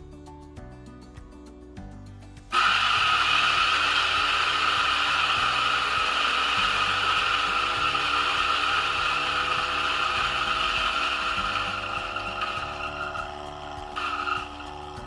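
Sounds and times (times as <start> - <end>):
electric coffee grinder whirring: 2.5 - 15.0.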